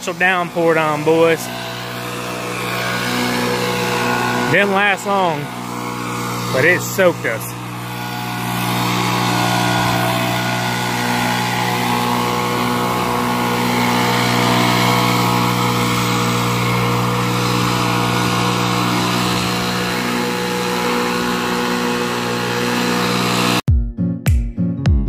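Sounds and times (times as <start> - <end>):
engine running steadily: 0.0 - 23.6.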